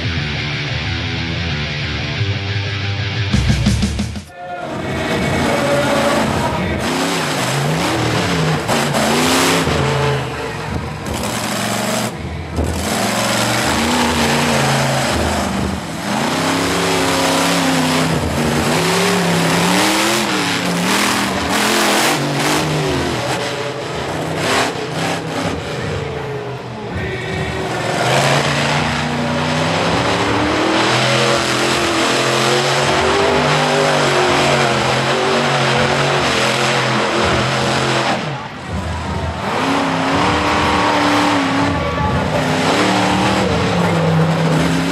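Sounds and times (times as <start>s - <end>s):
monster truck engine revving: 0.0s - 44.9s.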